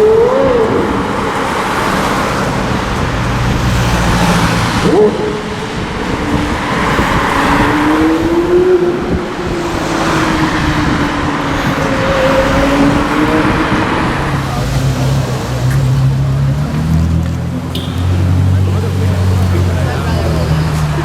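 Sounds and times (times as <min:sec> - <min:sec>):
road noise: 0:00.0 - 0:21.0
sports car engine: 0:00.0 - 0:21.0.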